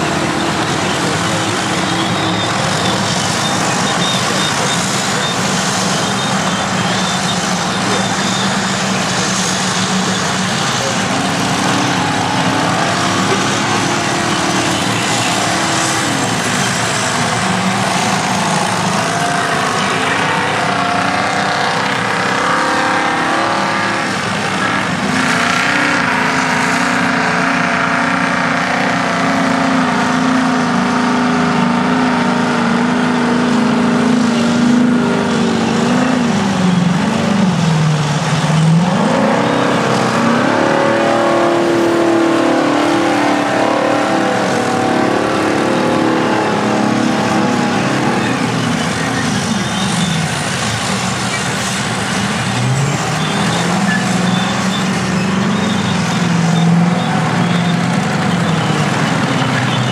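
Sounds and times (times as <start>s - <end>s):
heavy machine engines running: 0.0s - 59.9s.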